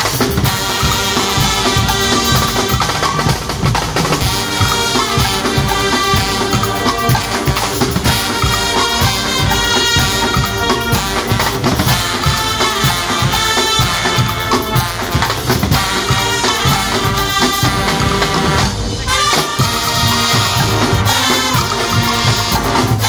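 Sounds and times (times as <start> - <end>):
brass band playing: 0.0 - 23.0
drum kit and cymbals beat: 0.0 - 23.0.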